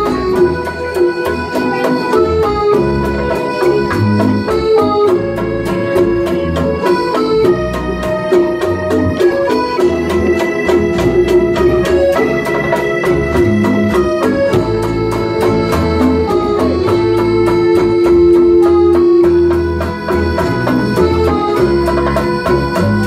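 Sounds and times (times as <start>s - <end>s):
electronic keyboard line: 0.0s - 23.0s
hand drums: 0.0s - 23.0s
plucked mandolin strings: 0.0s - 23.0s
strummed guitars: 0.0s - 23.0s.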